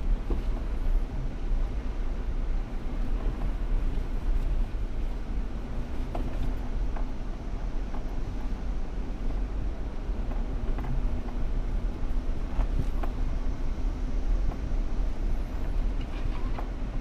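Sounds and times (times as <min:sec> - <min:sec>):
off-road vehicle engine at low revs: 0:00.0 - 0:17.0.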